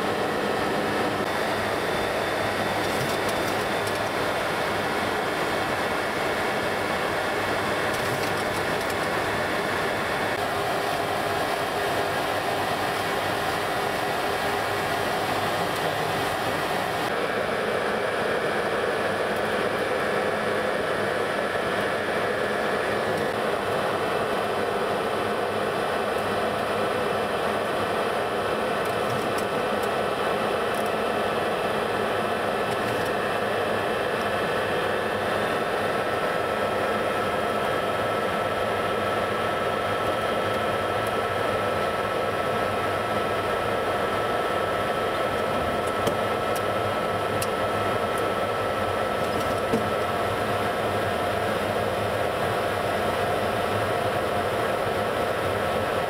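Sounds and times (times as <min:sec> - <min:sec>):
faint steady whine: 0:00.0 - 0:56.0
jet engines in flight: 0:00.0 - 0:56.0.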